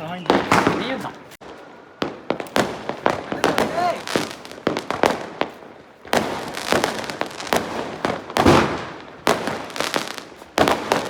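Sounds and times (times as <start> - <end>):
firecrackers banging and crackling: 0.0 - 11.0.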